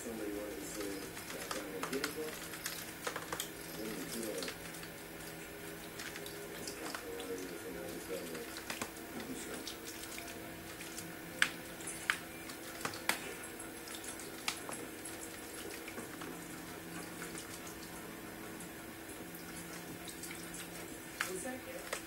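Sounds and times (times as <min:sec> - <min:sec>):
water splashing: 0:00.0 - 0:22.0.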